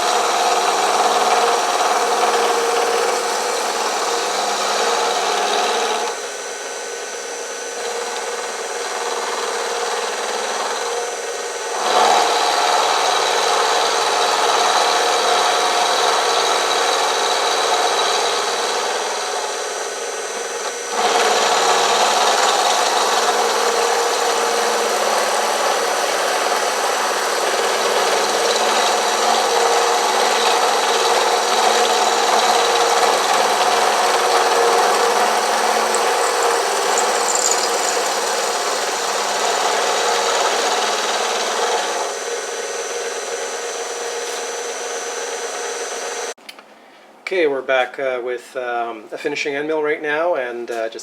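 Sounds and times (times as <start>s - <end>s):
milling machine cutting metal: 0.0s - 46.3s.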